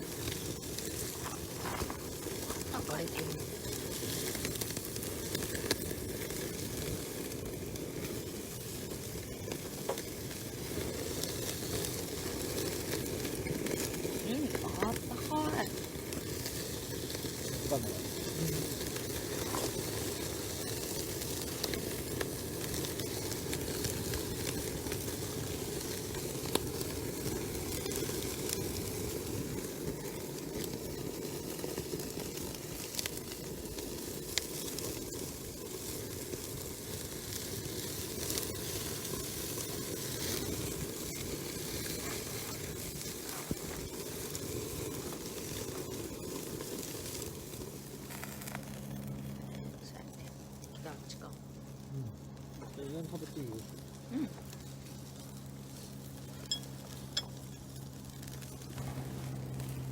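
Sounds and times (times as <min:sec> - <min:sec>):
wood fire hissing and crackling: 0:00.0 - 0:59.9.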